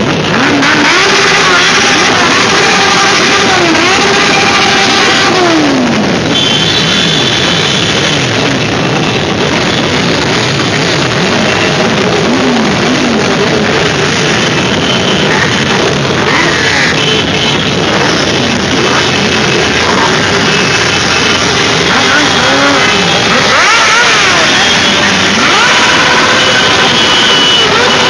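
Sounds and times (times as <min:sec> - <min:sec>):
motorcycle engines revving and passing: 0:00.0 - 0:28.0.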